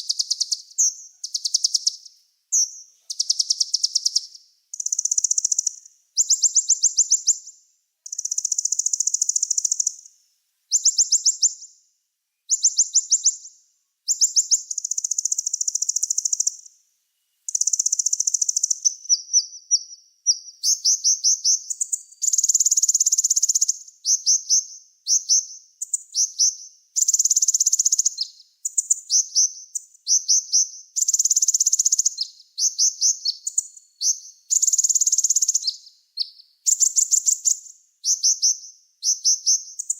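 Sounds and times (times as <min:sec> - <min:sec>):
songbird trilling and chattering: 0:00.0 - 0:07.5, 0:08.1 - 0:10.1, 0:10.7 - 0:11.7, 0:12.5 - 0:13.5, 0:14.1 - 0:16.7, 0:17.5 - 0:39.9.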